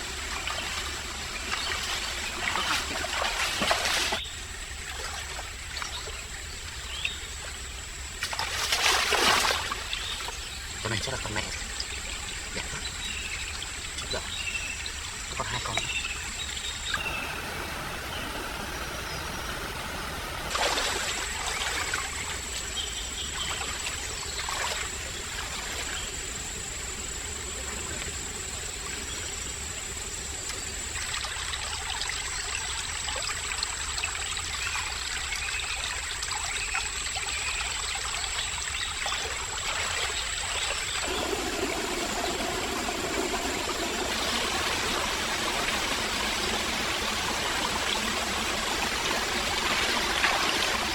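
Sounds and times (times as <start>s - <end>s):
stream water trickling: 0.0s - 50.9s.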